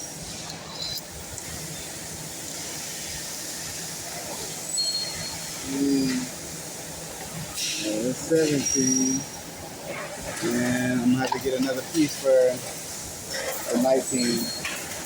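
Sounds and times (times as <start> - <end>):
background hiss and rumble: 0.0 - 15.0.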